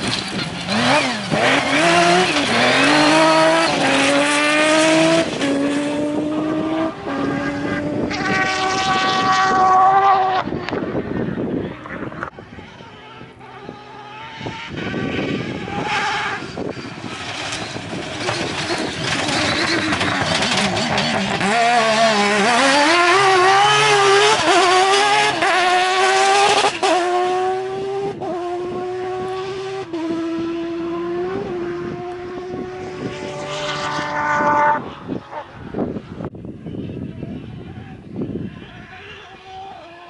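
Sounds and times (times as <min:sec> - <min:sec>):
rally car engine at full throttle: 0:00.0 - 0:40.0.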